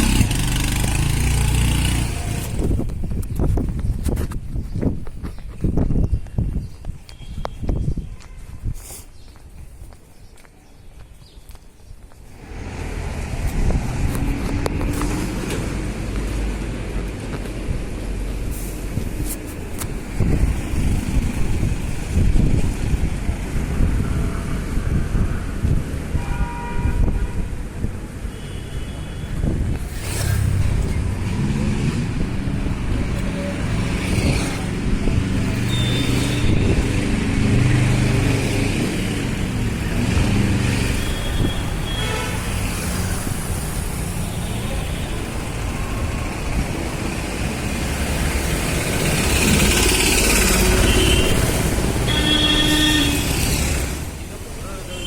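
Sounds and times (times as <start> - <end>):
vehicles passing close by: 0.0 - 6.1, 12.1 - 55.0.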